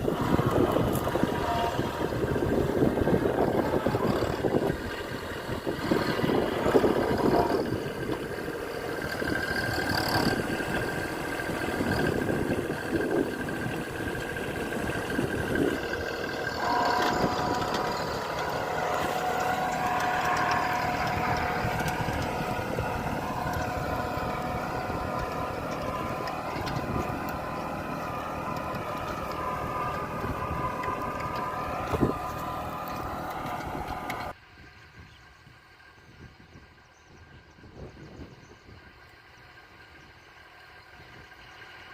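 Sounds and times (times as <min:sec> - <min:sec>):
whine: 0:00.0 - 0:34.3
vehicle engine running: 0:00.0 - 0:41.9.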